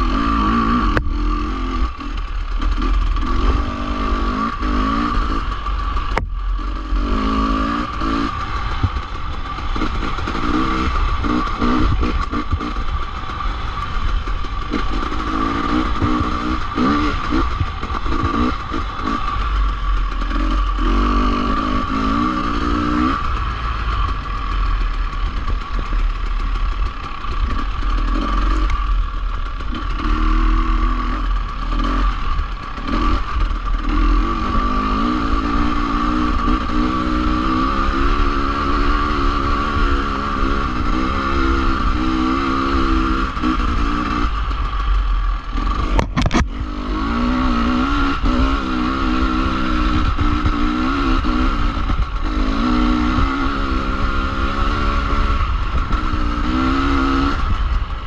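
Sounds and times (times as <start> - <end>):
dirt bike engine revving: 0.0 - 58.0
steady low rumble: 0.0 - 58.0.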